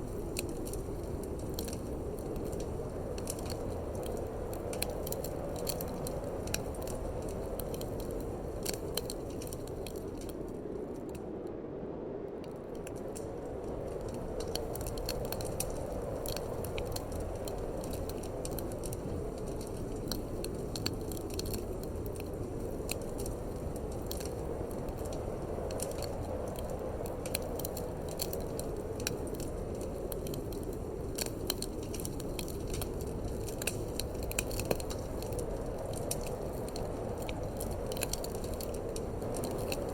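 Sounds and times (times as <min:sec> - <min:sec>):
wood fire crackling and popping: 0:00.0 - 0:11.4, 0:12.4 - 0:39.9.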